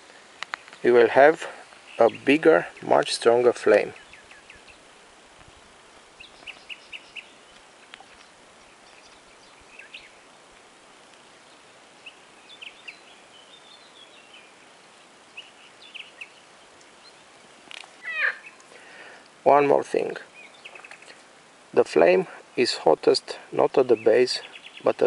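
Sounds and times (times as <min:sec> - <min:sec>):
outdoor background hiss: 0:00.0 - 0:25.0
small birds chirping: 0:00.0 - 0:25.0.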